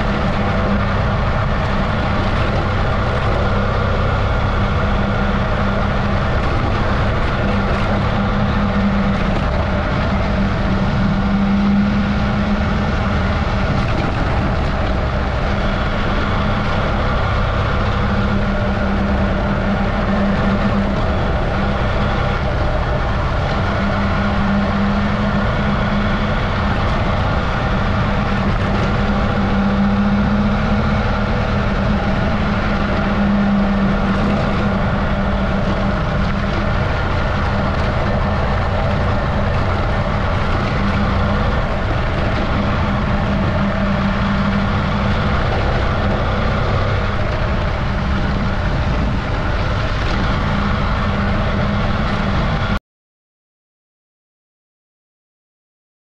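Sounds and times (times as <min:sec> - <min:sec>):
motorcycle engine running: 0:00.0 - 0:52.8
wind and road noise: 0:00.0 - 0:52.8.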